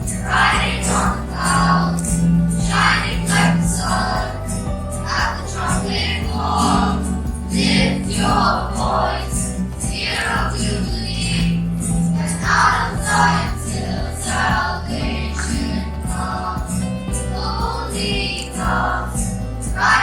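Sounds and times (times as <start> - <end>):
children singing worship song: 0.0 - 20.0
musical accompaniment: 0.0 - 20.0.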